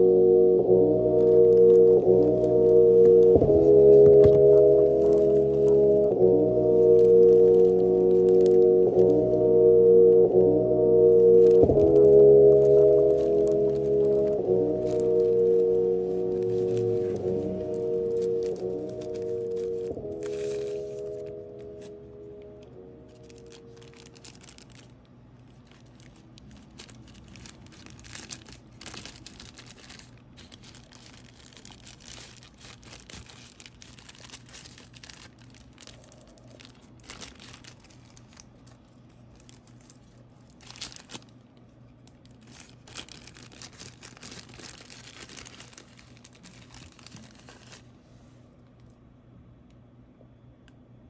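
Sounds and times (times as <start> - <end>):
tissue paper crinkling: 1.0 - 48.4.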